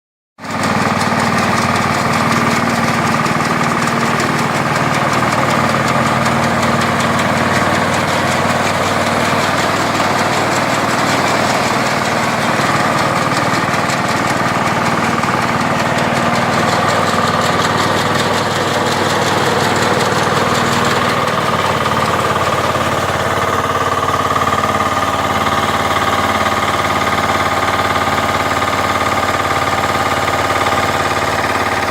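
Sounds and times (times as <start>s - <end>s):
combine harvester engine droning: 0.4s - 31.9s
machinery clatter: 0.4s - 31.9s.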